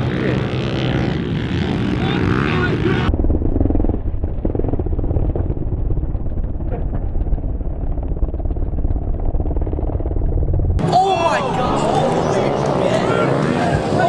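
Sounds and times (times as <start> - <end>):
motorbike engine running hard: 0.0 - 14.0.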